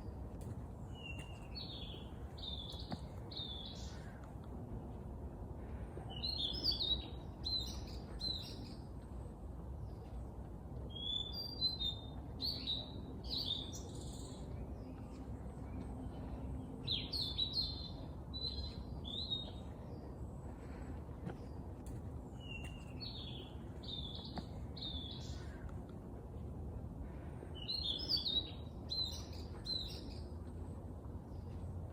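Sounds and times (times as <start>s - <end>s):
low background rumble: 0.0s - 31.9s
songbirds singing: 0.0s - 31.9s.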